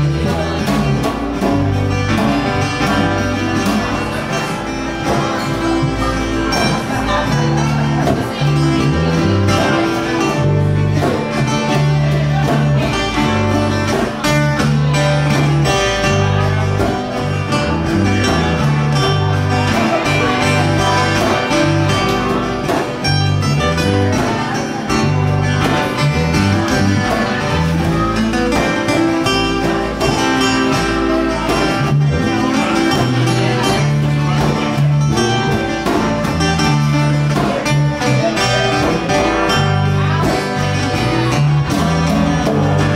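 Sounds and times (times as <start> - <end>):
electric bass line: 0.0 - 42.9
steady drum beat: 0.0 - 42.9
strummed acoustic guitar: 0.0 - 42.9.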